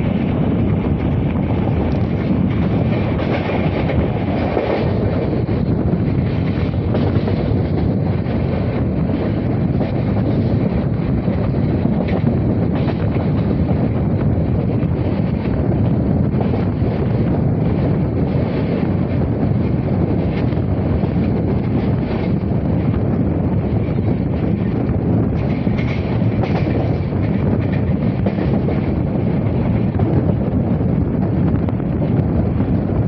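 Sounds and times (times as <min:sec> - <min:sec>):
train wheels rumbling on rails: 0:00.0 - 0:33.0
wind buffeting microphone: 0:00.0 - 0:33.0.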